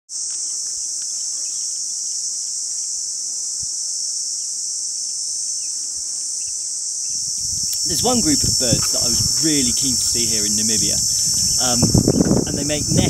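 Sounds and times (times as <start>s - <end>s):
insects shrilling: 0.1s - 13.0s.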